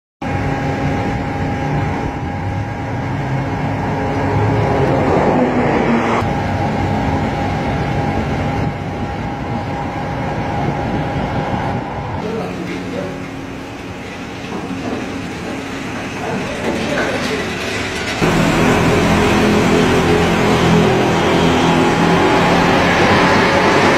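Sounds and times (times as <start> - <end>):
diesel truck engines rumbling: 0.2 - 23.9.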